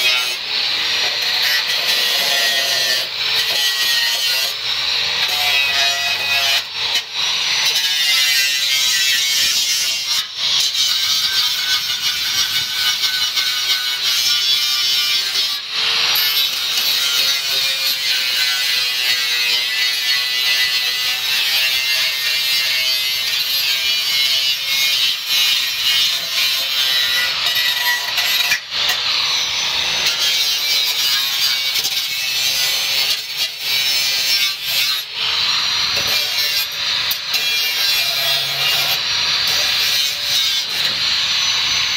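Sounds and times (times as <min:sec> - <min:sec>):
angle grinder cutting sheet metal: 0:00.0 - 0:41.9.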